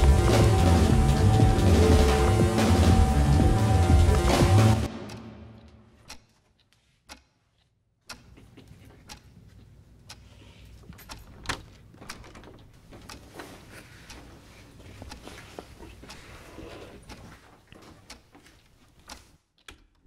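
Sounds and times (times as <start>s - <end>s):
wall clock ticking: 0.0s - 19.5s.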